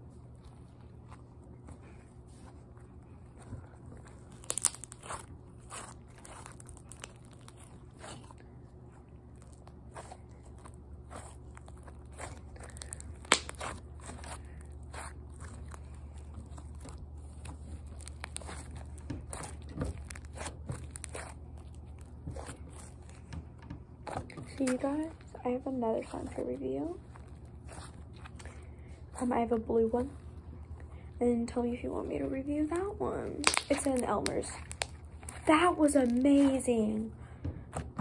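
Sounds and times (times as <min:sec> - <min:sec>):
hands squishing slime: 0:00.1 - 0:30.9, 0:32.6 - 0:38.0.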